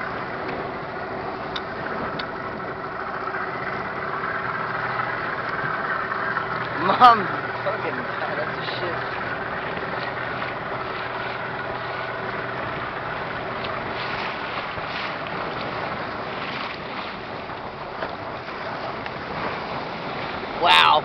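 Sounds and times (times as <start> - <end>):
boat engine idling hum: 0.0 - 21.0
wind and water rushing: 0.0 - 21.0
wind buffeting microphone: 0.0 - 21.0.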